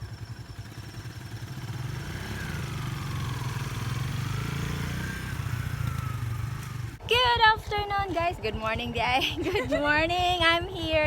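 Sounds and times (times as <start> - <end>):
motorcycle engine throbbing: 0.0 - 11.0.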